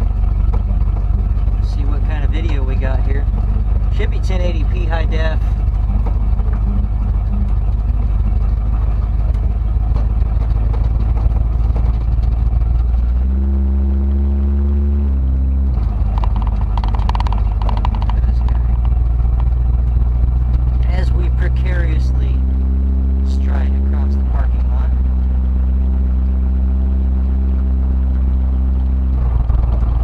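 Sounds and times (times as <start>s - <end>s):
engine low rumble from inside cab: 0.0s - 30.0s
steady humming note: 0.0s - 30.0s.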